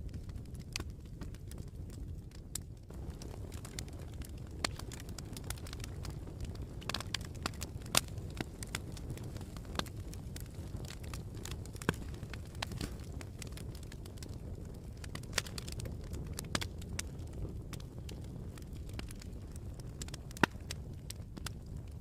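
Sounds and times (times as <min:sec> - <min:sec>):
campfire crackling and popping: 0:00.0 - 0:22.0
low fire rumble: 0:00.0 - 0:22.0.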